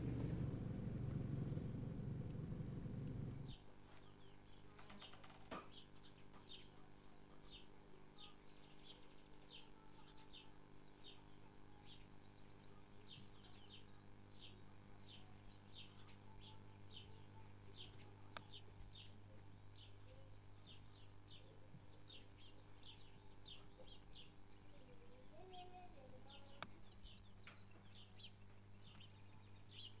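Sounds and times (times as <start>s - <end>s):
steady low hum: 0.0s - 30.0s
small birds chirping: 2.4s - 30.0s.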